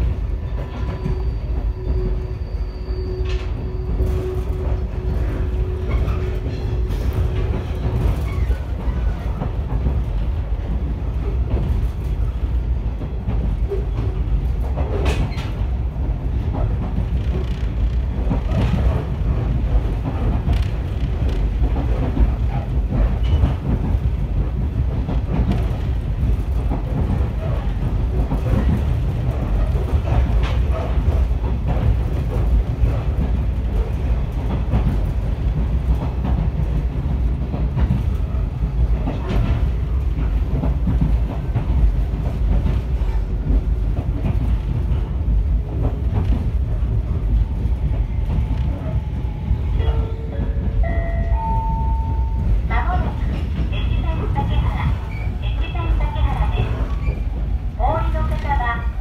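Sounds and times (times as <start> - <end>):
train interior low rumble: 0.0 - 59.0.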